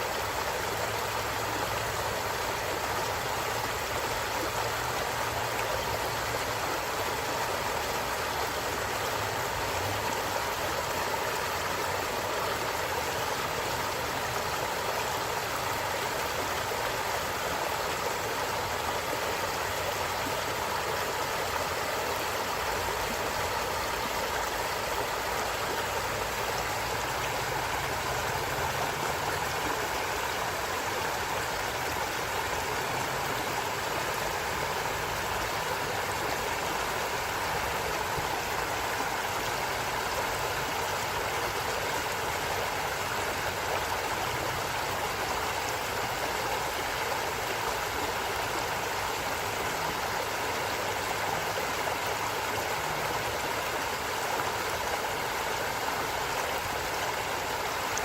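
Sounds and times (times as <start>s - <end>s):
stream of running water: 0.0s - 58.0s.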